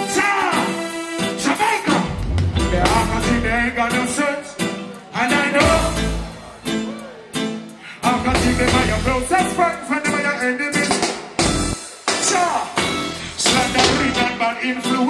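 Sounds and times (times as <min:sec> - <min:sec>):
man singing: 0:00.0 - 0:07.0, 0:07.7 - 0:11.4, 0:12.0 - 0:15.0
live reggae band: 0:00.0 - 0:15.0.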